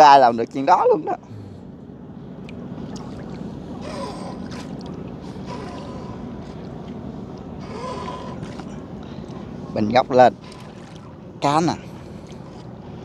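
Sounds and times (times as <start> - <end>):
small boat engine rumble: 0.0 - 13.0
water noise: 2.0 - 13.0.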